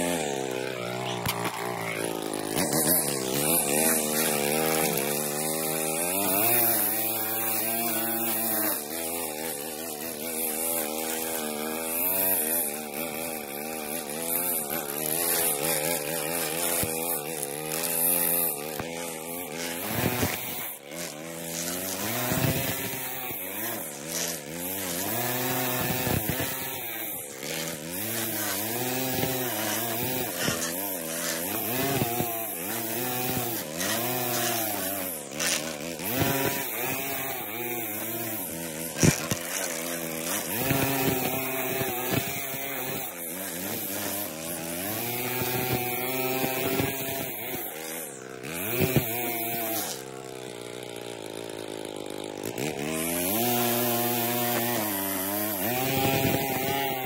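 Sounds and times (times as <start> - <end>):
small engine revving: 0.0 - 57.0.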